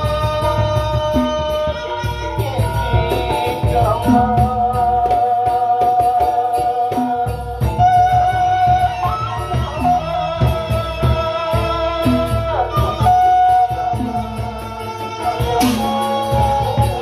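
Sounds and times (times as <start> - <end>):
bamboo flute melody with slides: 0.0 - 17.0.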